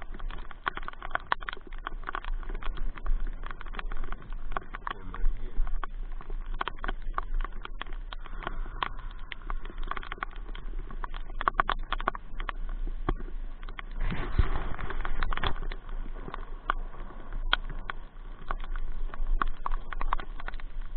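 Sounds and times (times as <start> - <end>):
rain pattering: 0.0 - 20.9
raindrops ticking near microphone: 0.0 - 20.9.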